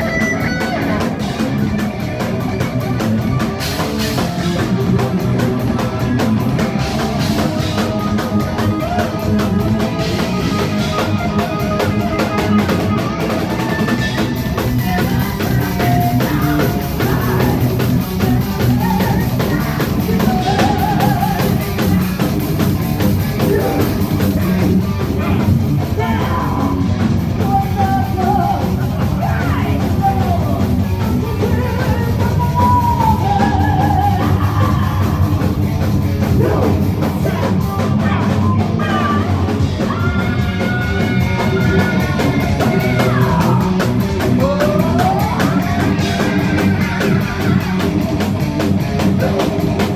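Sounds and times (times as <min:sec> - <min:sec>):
heavy metal band playing: 0:00.0 - 0:49.9
sliding lead guitar line: 0:00.0 - 0:49.9.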